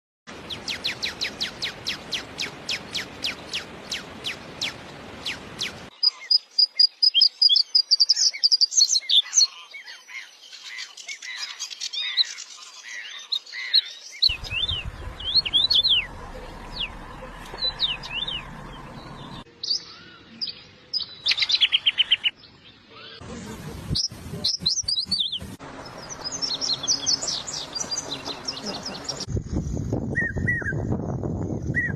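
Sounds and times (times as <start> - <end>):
songbirds singing: 0.4 - 23.3, 23.9 - 30.9.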